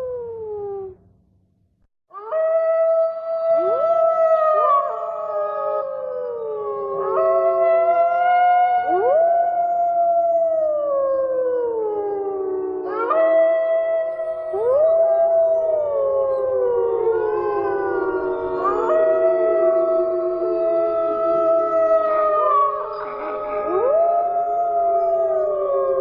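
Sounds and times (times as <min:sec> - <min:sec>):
wolves howling: 0:02.1 - 0:26.0.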